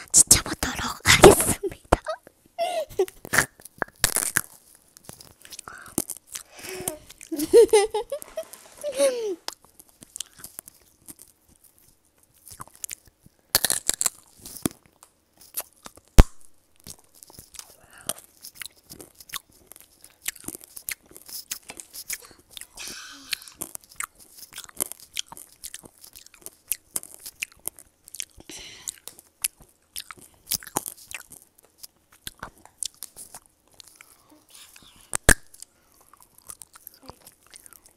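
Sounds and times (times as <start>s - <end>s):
crunching candy coating: 0.0s - 2.3s, 2.9s - 37.9s
chewing: 3.0s - 7.4s, 9.4s - 16.1s, 16.8s - 37.9s.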